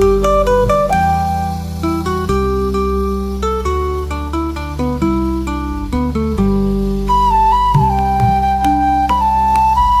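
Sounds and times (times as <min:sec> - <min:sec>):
plucked guitar-like melody: 0:00.0 - 0:10.0
sustained bass: 0:00.0 - 0:10.0.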